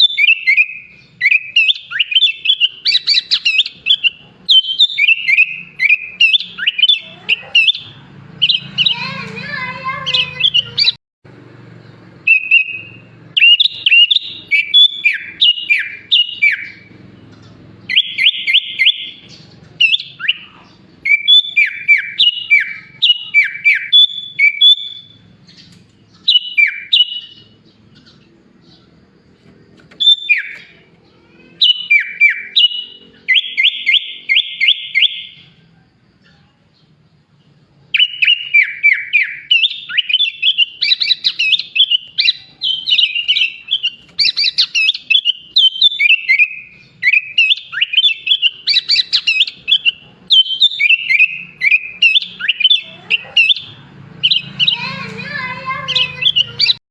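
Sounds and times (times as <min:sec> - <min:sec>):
bulbul singing whistled phrases: 0:00.0 - 0:11.0, 0:12.2 - 0:56.8.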